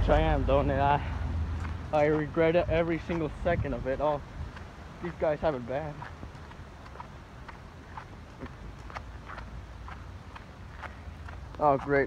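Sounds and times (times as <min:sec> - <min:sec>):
footsteps on wet asphalt: 0:00.0 - 0:12.0
low steady rumble: 0:00.0 - 0:12.0.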